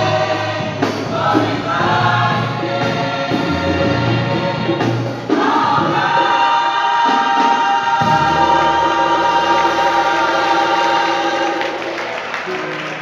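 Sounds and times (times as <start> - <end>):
gospel choir singing: 0.0 - 13.0
keyboard: 0.0 - 13.0.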